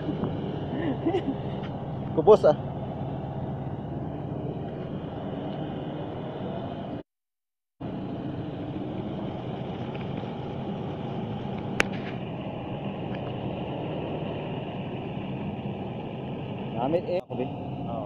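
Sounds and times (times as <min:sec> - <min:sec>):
engine idling rumble: 0:00.0 - 0:07.0, 0:07.8 - 0:18.0.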